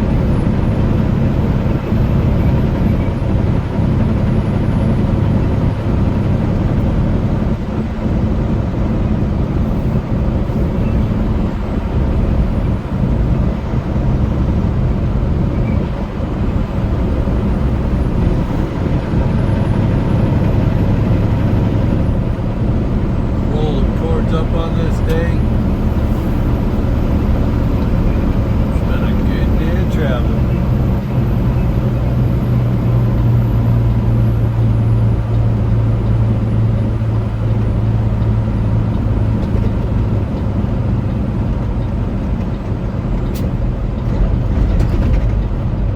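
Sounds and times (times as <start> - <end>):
truck engine drone: 0.0 - 45.9.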